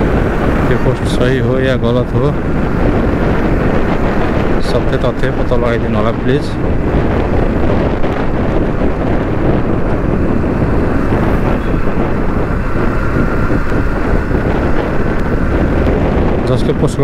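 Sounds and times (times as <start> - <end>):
motorcycle riding noise: 0.0 - 17.0
wind buffeting microphone: 0.0 - 17.0.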